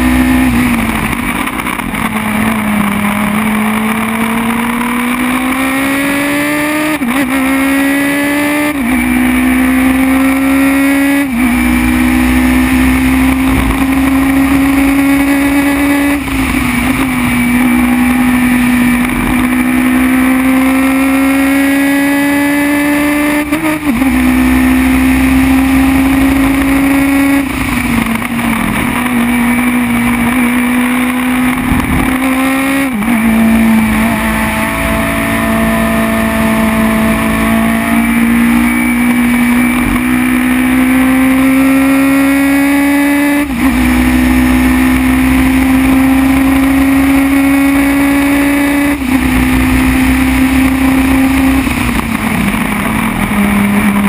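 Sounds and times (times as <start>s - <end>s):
racing car engine revving: 0.0s - 54.0s
wind and road noise: 0.0s - 54.0s.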